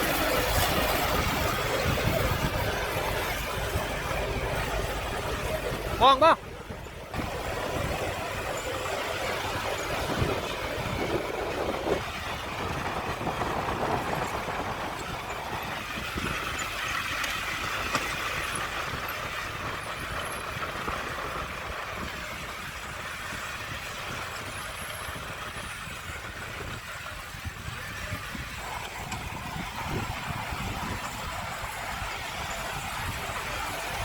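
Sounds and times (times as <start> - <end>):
heavy machinery diesel engine: 0.0 - 34.0.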